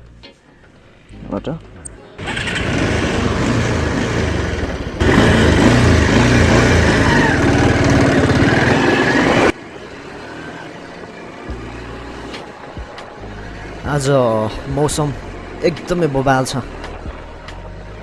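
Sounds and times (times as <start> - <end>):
motorcycle engine pulling away: 2.2 - 18.0.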